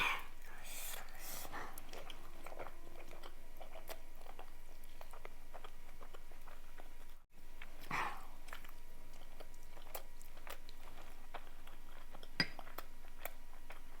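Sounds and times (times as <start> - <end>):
chewing and mouth sounds: 0.0 - 14.0.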